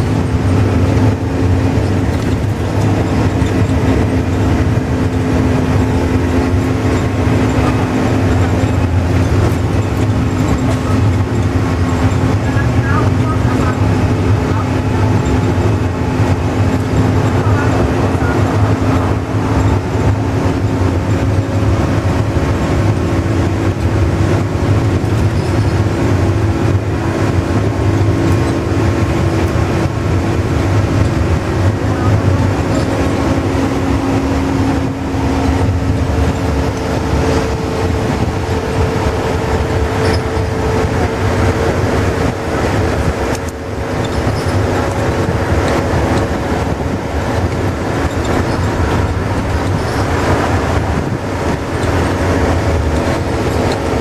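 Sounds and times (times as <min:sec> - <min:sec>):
bus engine drone: 0:00.0 - 0:54.0
tyre and road noise: 0:00.0 - 0:54.0.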